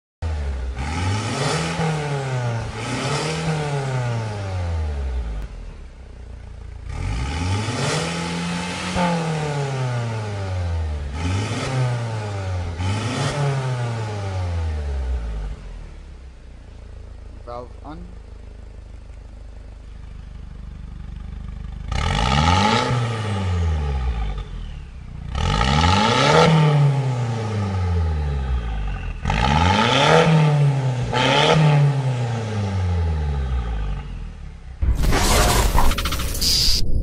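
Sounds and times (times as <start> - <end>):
car engine idling and revving: 0.2 - 37.0.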